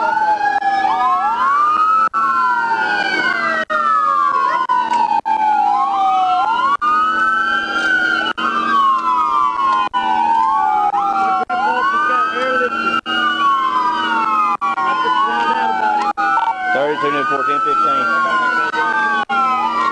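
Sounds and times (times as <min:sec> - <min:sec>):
police sirens wailing: 0:00.0 - 0:19.9.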